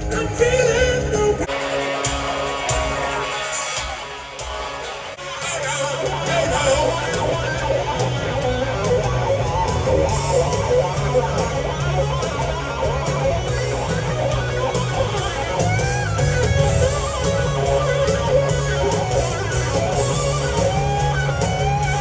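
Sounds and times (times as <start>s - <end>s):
bass line: 0.0s - 22.0s
electric guitar: 0.0s - 22.0s
rock band playing live: 0.0s - 22.0s.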